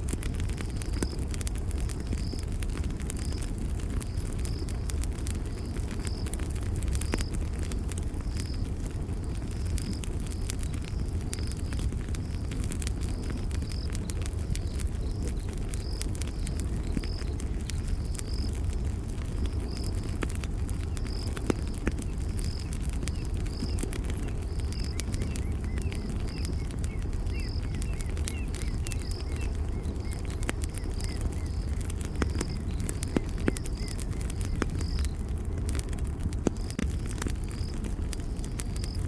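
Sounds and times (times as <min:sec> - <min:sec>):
campfire crackling and popping: 0:00.0 - 0:39.0.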